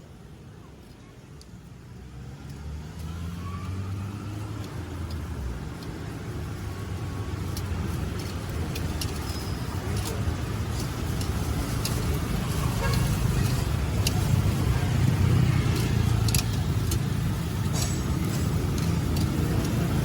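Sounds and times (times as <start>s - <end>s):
vehicle engine running: 2.8s - 20.0s
sharp clicks and taps: 3.8s - 20.0s.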